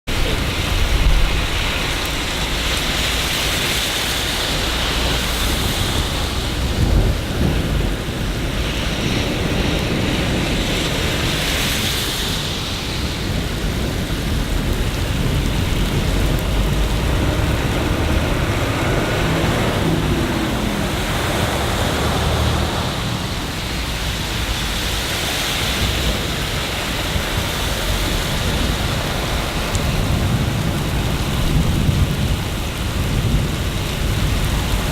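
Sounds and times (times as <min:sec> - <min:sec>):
low thunder rumbles: 0:00.1 - 0:34.9
steady rain: 0:00.1 - 0:34.9.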